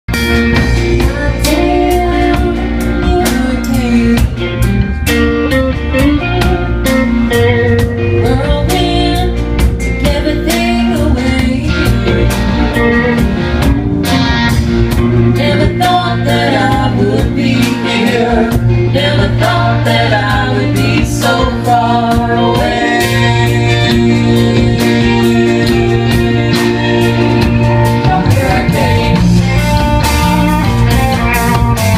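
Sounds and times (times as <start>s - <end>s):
bass: 0.0s - 31.9s
drums: 0.0s - 31.9s
guitar: 0.0s - 31.9s
rock band playing: 0.1s - 31.9s.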